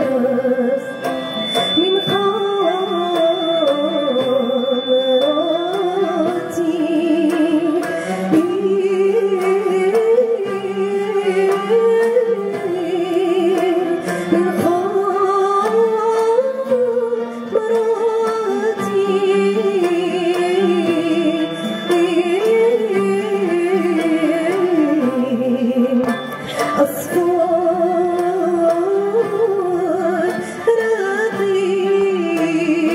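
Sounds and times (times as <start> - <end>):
plucked and bowed string ensemble: 0.0 - 32.9
woman singing with vibrato: 0.0 - 32.9.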